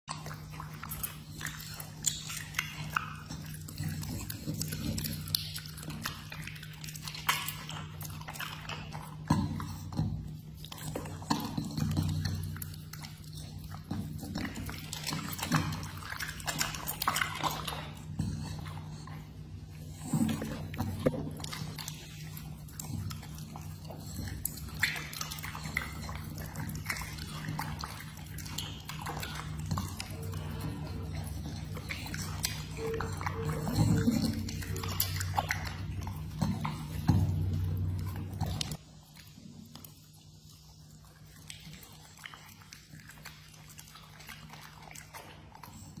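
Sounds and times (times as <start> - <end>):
dog licking and chewing meat: 0.0 - 46.0
steady low hum: 0.1 - 46.0.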